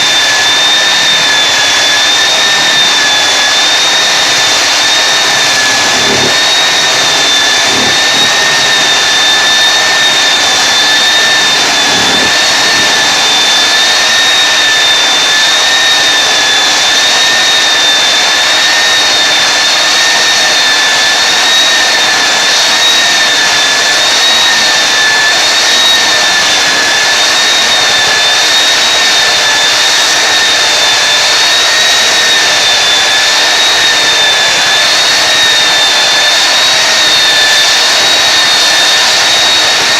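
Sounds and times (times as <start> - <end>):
floor sander whining and hissing: 0.0 - 39.9.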